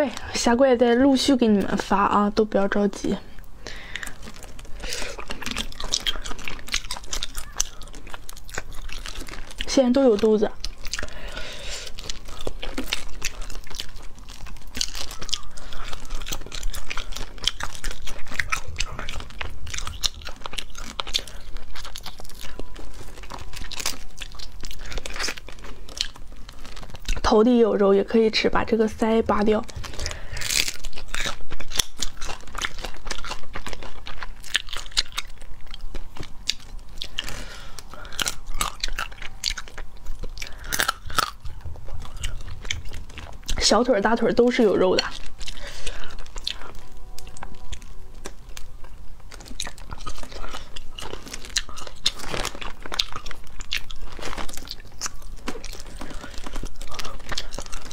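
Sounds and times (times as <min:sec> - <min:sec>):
crayfish shells cracking: 0:03.3 - 0:57.9.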